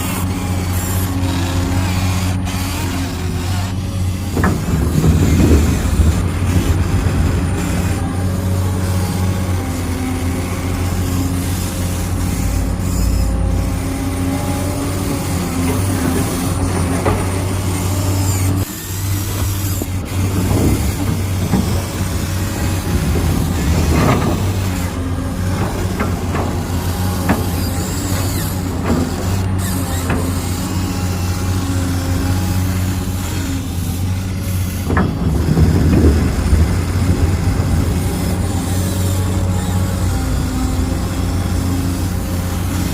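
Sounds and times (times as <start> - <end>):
toy motors and gears humming: 0.0 - 42.9.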